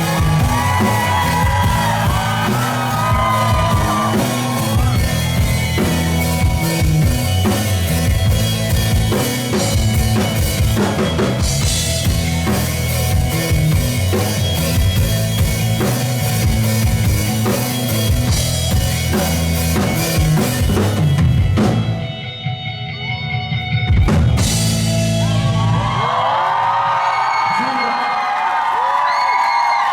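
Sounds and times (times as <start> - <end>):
heavy bass: 0.0 - 22.2, 23.9 - 26.2
pounding drum kit: 0.0 - 22.2, 23.8 - 26.3
rock band playing: 0.0 - 27.0.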